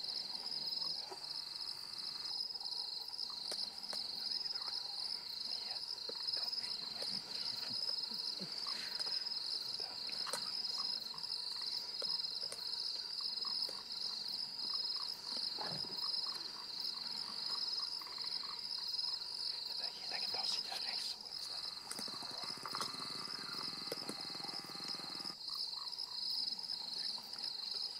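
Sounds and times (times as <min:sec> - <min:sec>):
night insect chorus trilling: 0:00.0 - 0:27.9.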